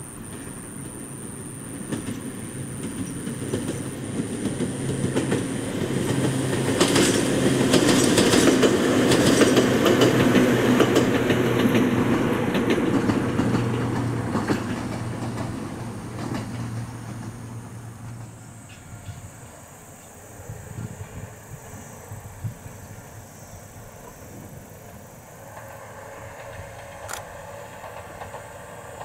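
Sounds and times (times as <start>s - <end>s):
electric train passing: 0.0s - 29.0s
wheels clacking over rail joints: 0.1s - 20.2s, 24.0s - 29.0s.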